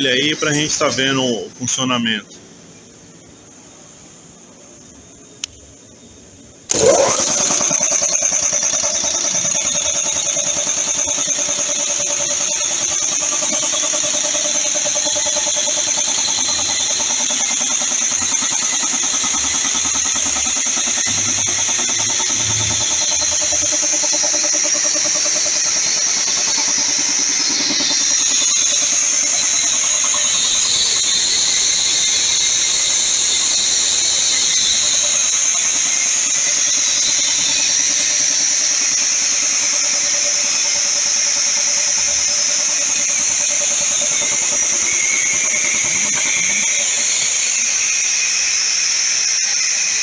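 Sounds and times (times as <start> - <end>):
high-pitched whine: 0.0 - 50.0
air compressor running: 6.7 - 50.0.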